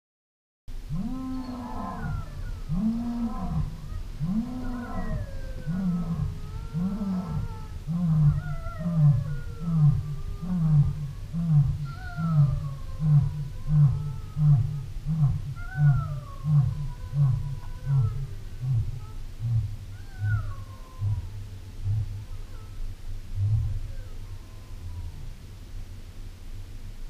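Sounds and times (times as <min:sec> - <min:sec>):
cheetah purring: 0:01.0 - 0:25.4.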